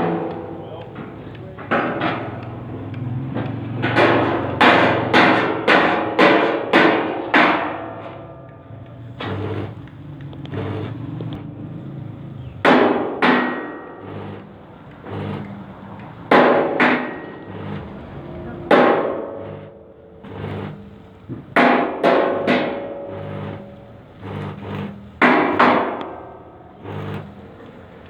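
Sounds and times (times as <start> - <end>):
hammer striking metal on anvil: 0.0 - 9.9, 12.6 - 14.5, 15.1 - 23.8, 24.4 - 26.4.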